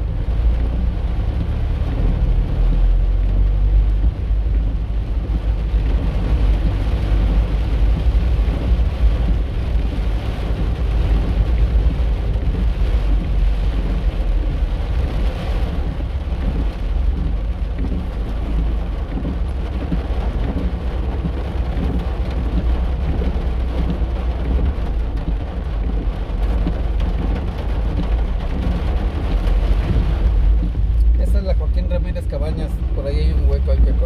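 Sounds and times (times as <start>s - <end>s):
car driving on wet road: 0.0s - 34.0s
heavy rain on a car roof: 0.0s - 34.0s.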